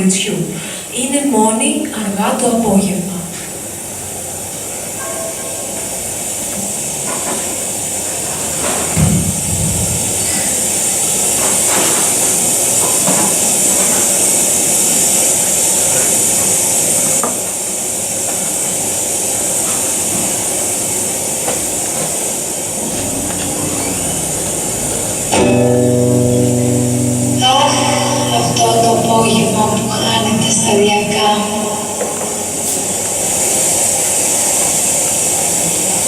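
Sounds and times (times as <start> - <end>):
loud hissing noise: 0.0 - 36.0.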